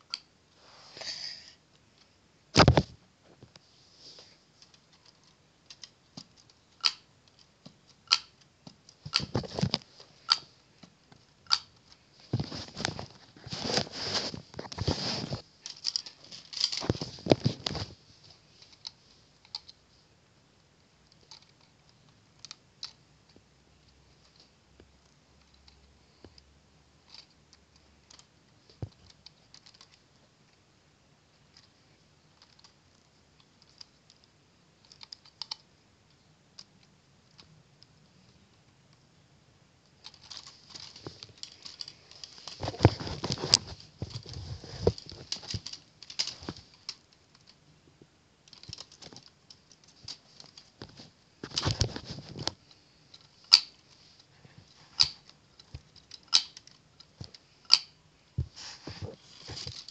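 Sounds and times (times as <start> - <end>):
plastic parts clicking and rattling: 4.6 - 19.8, 21.1 - 30.2, 31.5 - 37.9, 39.8 - 47.6, 48.4 - 58.0, 59.0 - 59.9.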